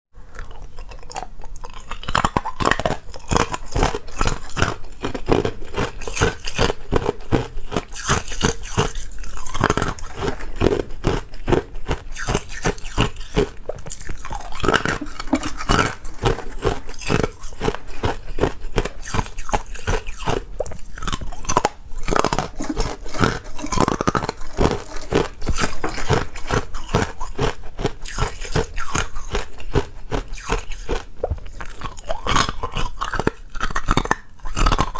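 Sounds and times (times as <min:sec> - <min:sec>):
person chewing ice: 0:00.2 - 0:34.9.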